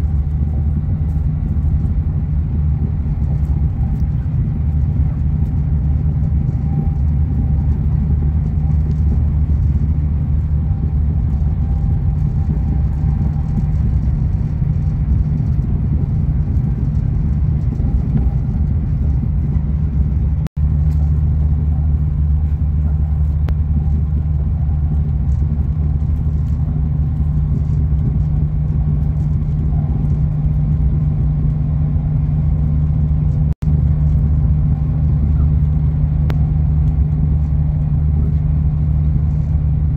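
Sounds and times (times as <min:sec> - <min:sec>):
train interior low rumble: 0:00.0 - 0:39.9.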